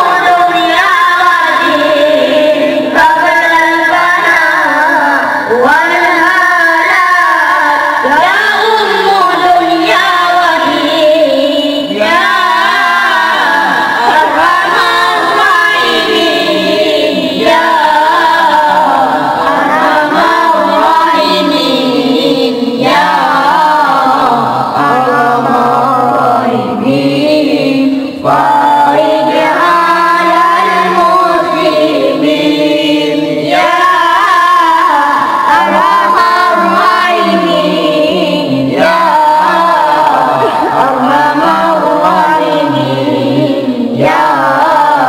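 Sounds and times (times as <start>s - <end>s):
boys singing into microphones: 0.0s - 45.0s.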